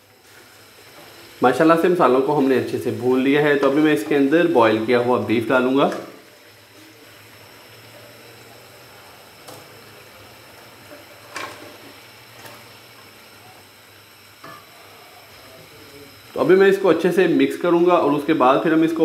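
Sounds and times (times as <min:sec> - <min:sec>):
faint cooking hiss: 0:00.0 - 0:19.0.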